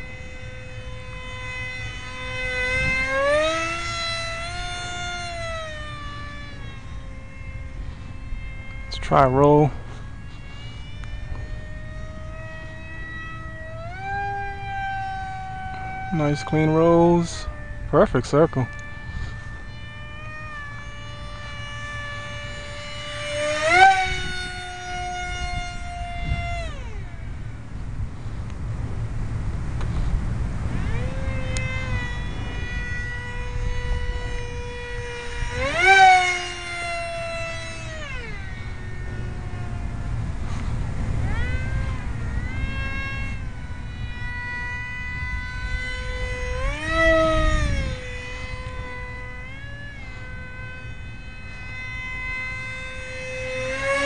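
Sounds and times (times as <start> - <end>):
electric motor whine: 0.0 - 54.0
wind rumble on microphone: 0.0 - 54.0.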